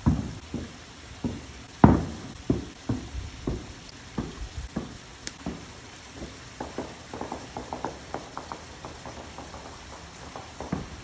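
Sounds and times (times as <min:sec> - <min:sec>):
distant fireworks boom: 0:00.0 - 0:11.0
running water: 0:00.0 - 0:11.0
wood fire crackling and popping: 0:00.0 - 0:11.0.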